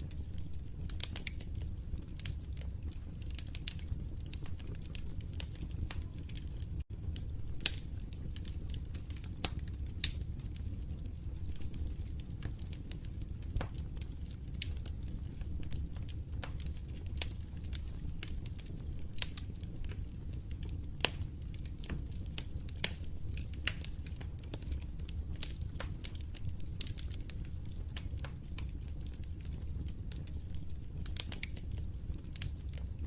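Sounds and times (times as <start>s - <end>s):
low rumble of flames: 0.0s - 33.0s
wood fire popping and snapping: 0.0s - 33.0s.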